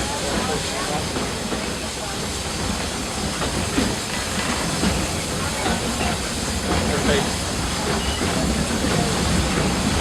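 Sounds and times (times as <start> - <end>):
steam train rumbling and hissing: 0.0 - 10.0.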